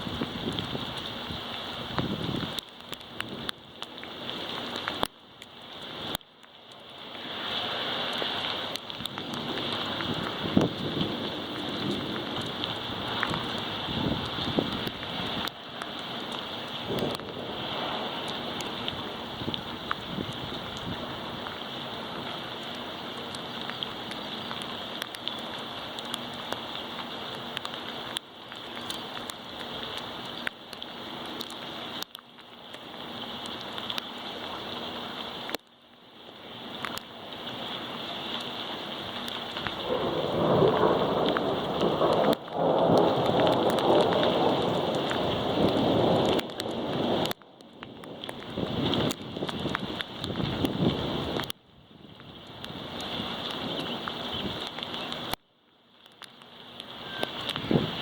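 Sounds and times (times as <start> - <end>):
heavy rain: 0.0 - 58.0
raindrops ticking close by: 0.0 - 58.0.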